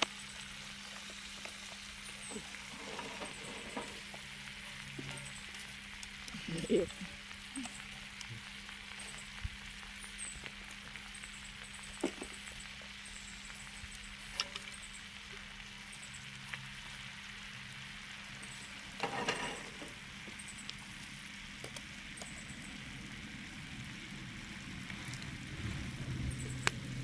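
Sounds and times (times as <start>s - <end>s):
food sizzling on a grill: 0.0s - 27.0s.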